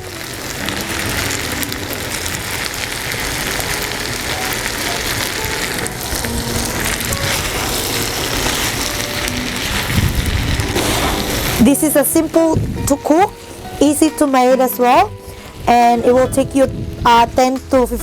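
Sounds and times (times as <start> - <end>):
pan of food sizzling: 0.0 - 18.0.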